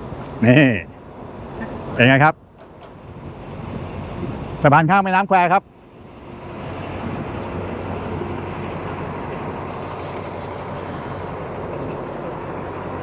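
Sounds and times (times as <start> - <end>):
train passing with rumble: 0.0 - 13.0.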